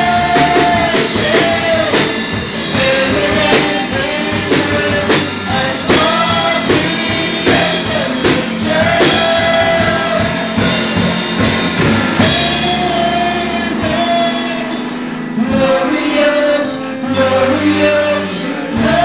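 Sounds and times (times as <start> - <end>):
male and female singing: 0.0 - 11.0, 12.2 - 19.0
drum kit steady beat: 0.0 - 19.0
electric guitars: 0.0 - 19.0.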